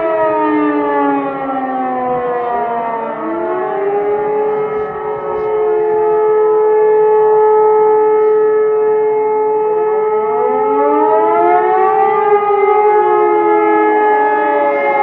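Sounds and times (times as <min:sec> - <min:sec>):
siren steady tone: 0:00.0 - 0:15.0
sirens rising and falling: 0:00.0 - 0:15.0.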